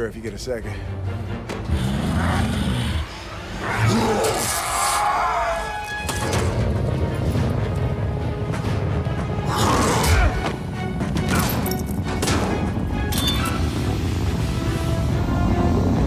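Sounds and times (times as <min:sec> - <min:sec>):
dramatic film score: 0:00.0 - 0:16.0.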